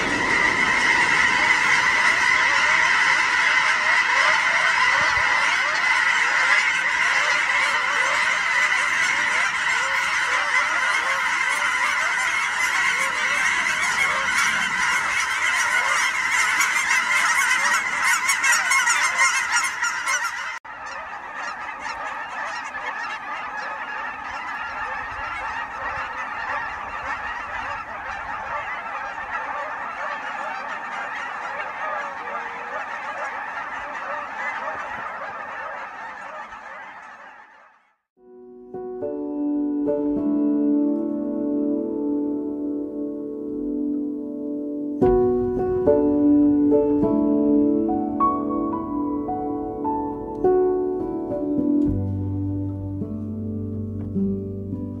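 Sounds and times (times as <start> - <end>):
geese honking: 0.0 - 38.0, 39.9 - 55.0.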